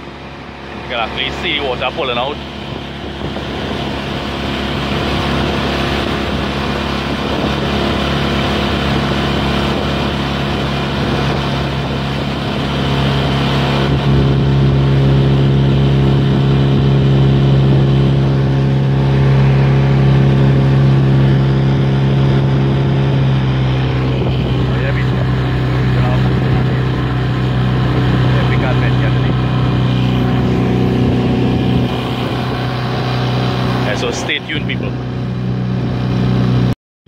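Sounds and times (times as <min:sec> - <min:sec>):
water rushing past hull: 0:00.0 - 0:36.7
outboard motor running: 0:00.0 - 0:36.8.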